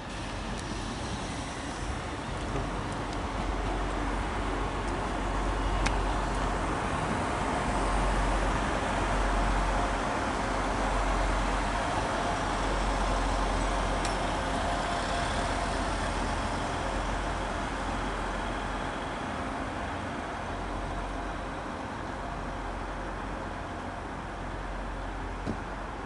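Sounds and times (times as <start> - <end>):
train rumbling past: 0.0 - 26.0.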